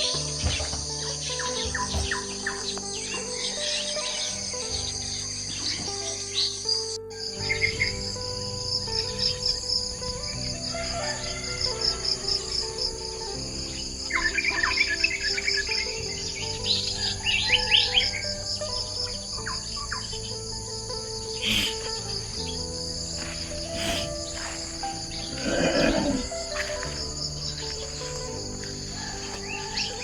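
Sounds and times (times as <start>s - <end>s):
birds chirping: 0.0s - 30.0s
insects trilling: 0.0s - 30.0s.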